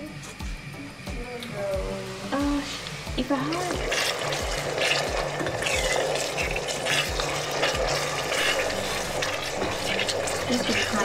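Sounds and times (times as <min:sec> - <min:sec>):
background music with thumping beat: 0:00.0 - 0:11.0
water running from a tap: 0:01.6 - 0:11.0.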